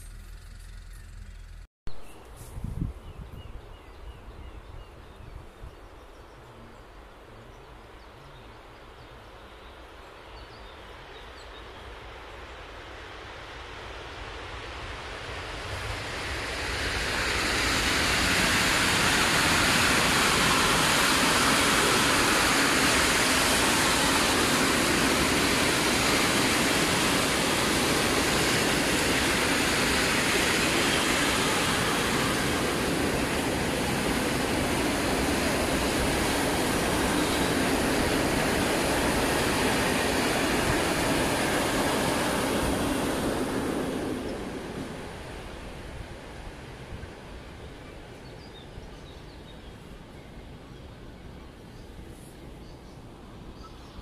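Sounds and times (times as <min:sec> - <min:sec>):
freight train rolling past: 0:00.0 - 0:07.2, 0:08.2 - 0:54.0.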